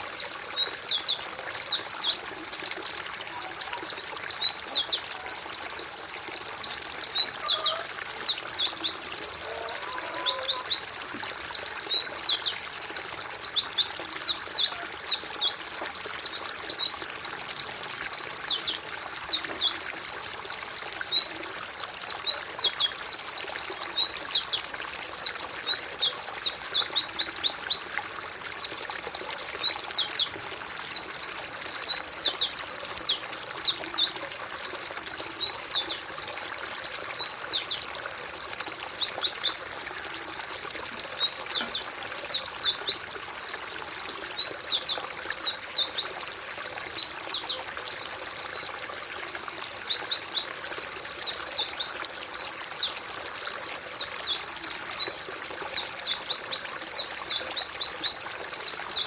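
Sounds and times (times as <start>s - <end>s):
birds chirping: 0.0s - 48.8s
trickling water: 0.0s - 59.0s.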